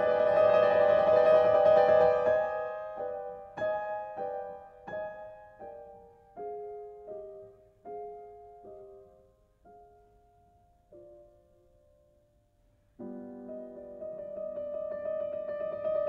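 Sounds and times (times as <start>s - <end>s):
slow piano notes: 0.0s - 16.0s.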